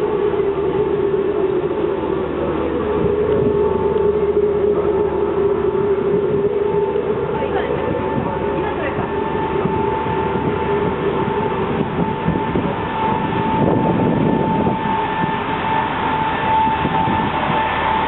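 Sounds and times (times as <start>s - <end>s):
constant high hum: 0.0s - 18.0s.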